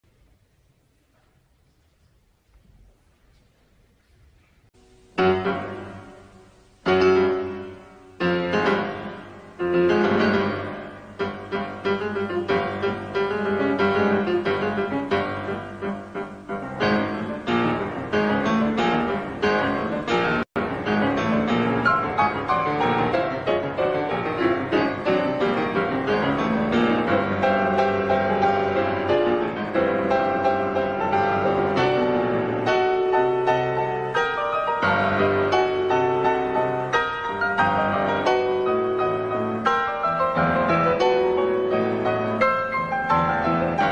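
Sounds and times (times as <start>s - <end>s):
solo piano playing: 4.8s - 43.9s.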